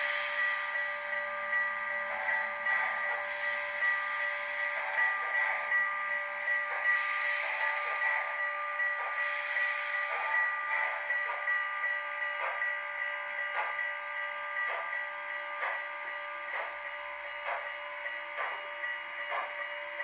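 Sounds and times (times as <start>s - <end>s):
model locomotive steam hiss and chuffs: 0.0s - 20.0s
steady high-pitched tone: 0.0s - 20.0s.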